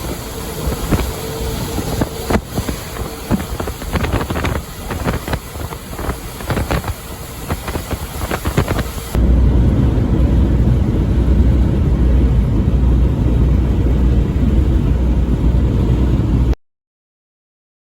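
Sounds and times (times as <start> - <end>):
truck engine and road rumble: 0.0 - 16.6.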